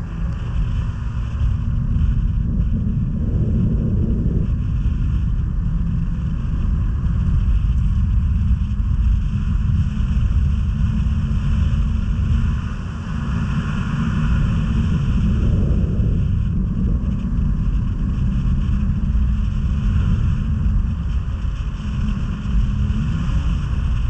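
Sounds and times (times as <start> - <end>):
snowmobile engine rumble: 0.0 - 24.0
wind on microphone: 0.0 - 24.0.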